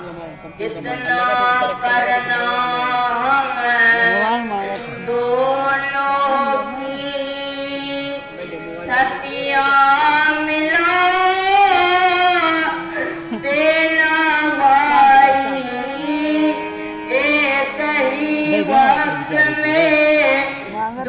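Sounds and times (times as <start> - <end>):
held instrumental notes: 0.0 - 21.0
person singing a lament: 0.6 - 21.0.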